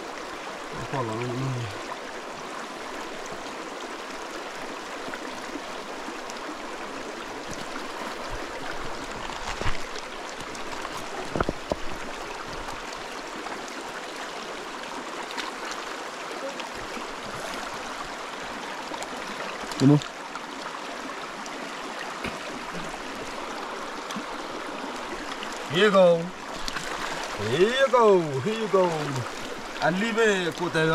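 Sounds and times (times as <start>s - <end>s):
creek rushing over rocks: 0.0s - 30.9s.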